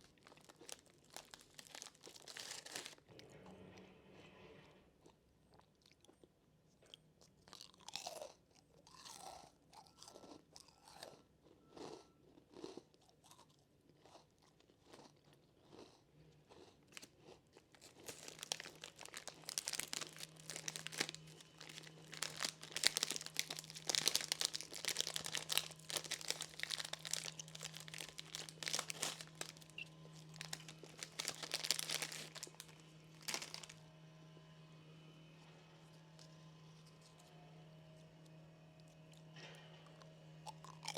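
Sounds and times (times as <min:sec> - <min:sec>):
crunching and chewing snack: 0:00.0 - 0:03.6, 0:05.0 - 0:34.5, 0:35.8 - 0:40.9.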